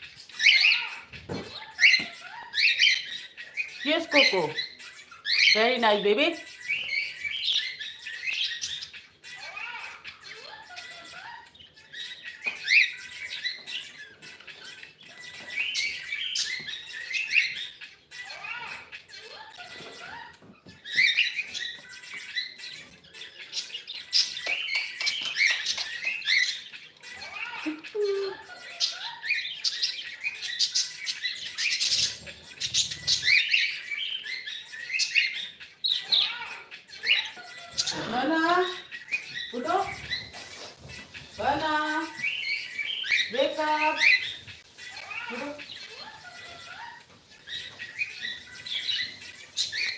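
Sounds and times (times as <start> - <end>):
cockatiel chirping: 0.2 - 5.8, 6.4 - 49.9.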